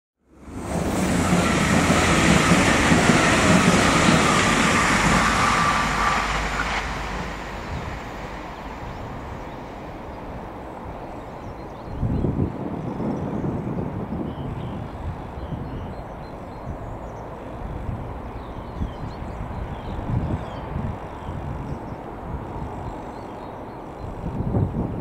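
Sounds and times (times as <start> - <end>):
train passing at speed: 0.2 - 25.0
train rumble: 0.3 - 25.0.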